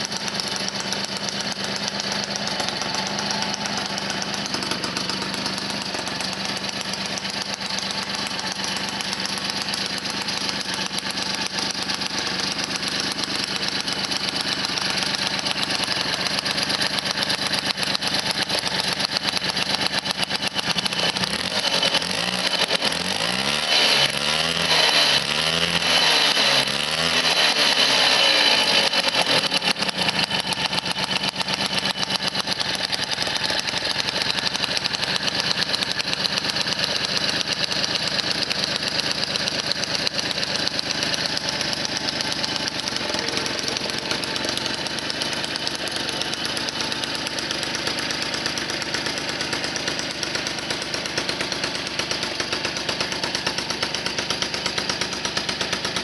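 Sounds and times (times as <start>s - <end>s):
moped engine idling and revving: 0.0s - 56.0s.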